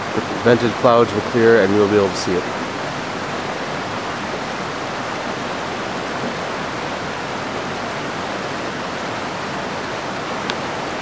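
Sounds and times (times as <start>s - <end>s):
stream of water rushing: 0.0s - 11.0s.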